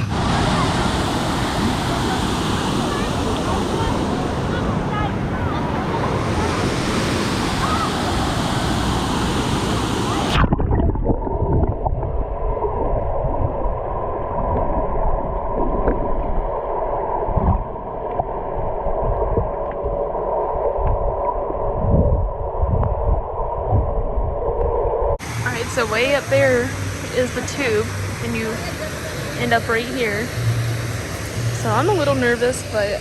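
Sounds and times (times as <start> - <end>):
pool water and surf: 0.0 - 33.0
underwater gurgling: 0.0 - 33.0.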